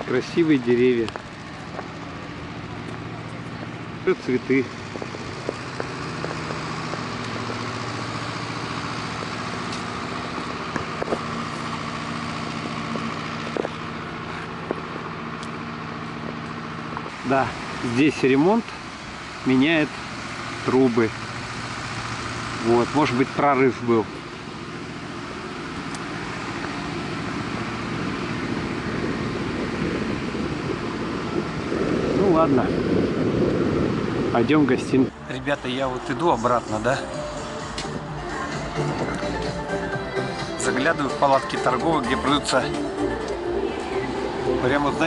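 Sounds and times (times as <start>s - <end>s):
street traffic engine hum: 0.0s - 45.0s.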